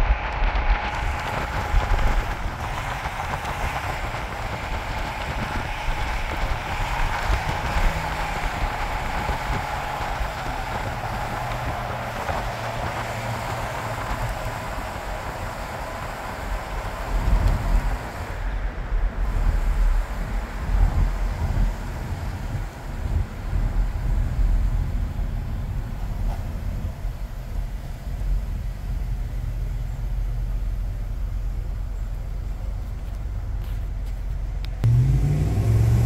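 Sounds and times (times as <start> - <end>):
freight train wheels rumbling and rattling: 0.0 - 36.0
gusty low rumbling: 0.0 - 36.0.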